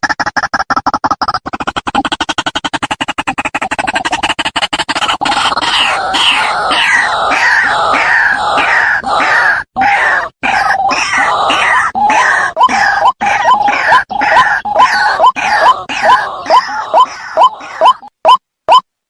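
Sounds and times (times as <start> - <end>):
waterhen harsh croaking calls: 1.6 - 18.9.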